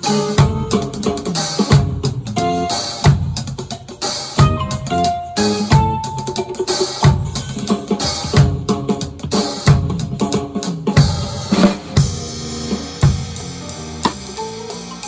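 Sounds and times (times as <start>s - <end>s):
band backing music: 0.0s - 15.0s
drum kit playing: 0.0s - 15.0s.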